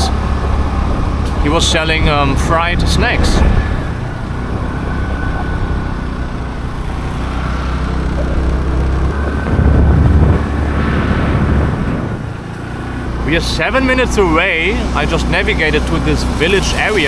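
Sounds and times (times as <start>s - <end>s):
motorbike engine running: 0.0s - 17.0s
road noise: 0.0s - 17.0s.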